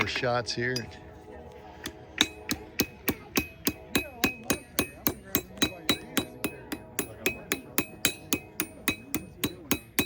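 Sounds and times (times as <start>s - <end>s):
hammer striking metal on anvil: 1.8s - 10.0s.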